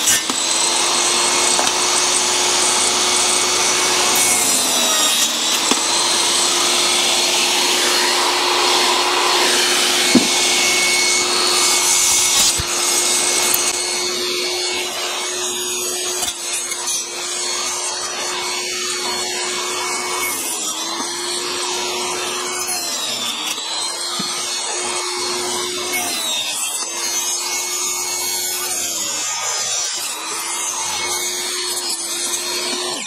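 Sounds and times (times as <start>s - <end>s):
table saw whining: 0.0s - 33.0s.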